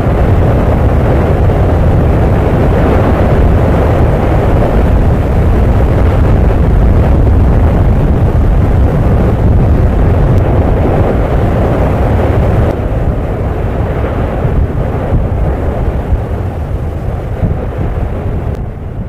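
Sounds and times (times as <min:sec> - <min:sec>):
volcanic eruption rumble: 0:00.0 - 0:19.0.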